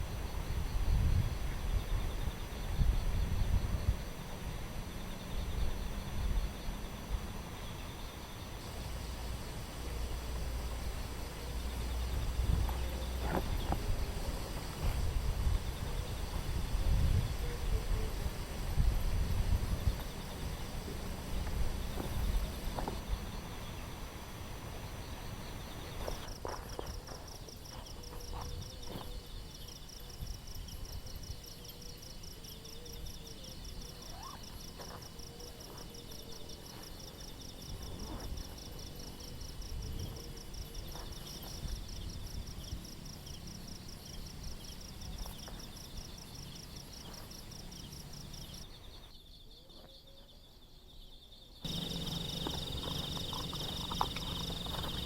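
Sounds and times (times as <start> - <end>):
insects trilling: 0.0 - 55.0
fainter insect trill: 0.2 - 55.0.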